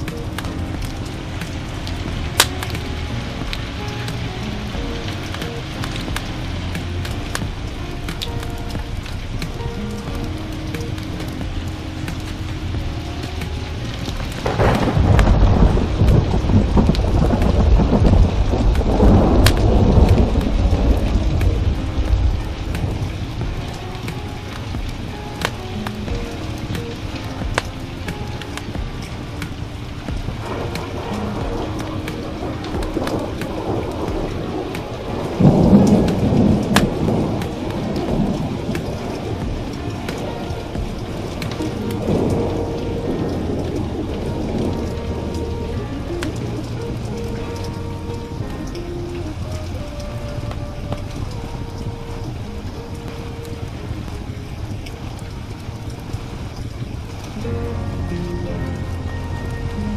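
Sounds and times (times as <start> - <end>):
fireplace crackles: 0.0 - 59.9
heavy rain: 0.0 - 59.9
thunderclap and deep rumble: 0.0 - 59.9.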